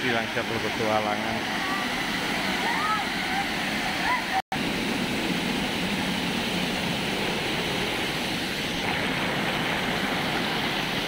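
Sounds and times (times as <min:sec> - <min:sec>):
waterfall crashing onto rocks: 0:00.0 - 0:11.0.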